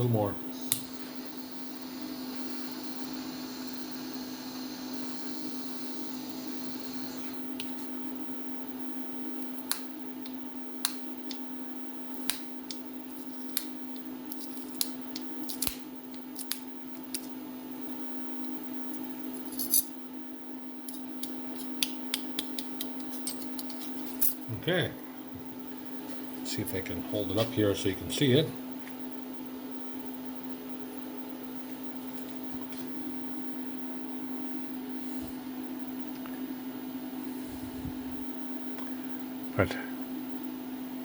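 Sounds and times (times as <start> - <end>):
workshop hum: 0.0 - 41.0.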